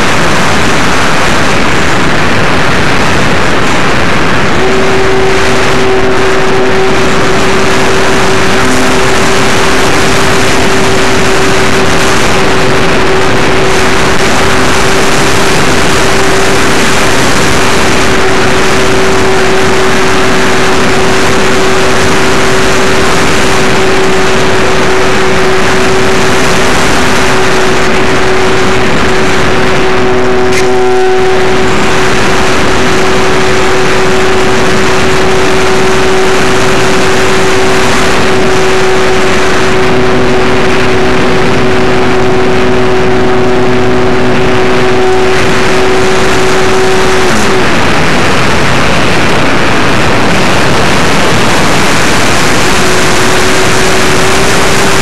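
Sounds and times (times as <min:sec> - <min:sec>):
electric motor and propeller whining: 0:00.0 - 0:55.0
wind rushing over microphone: 0:00.0 - 0:55.0.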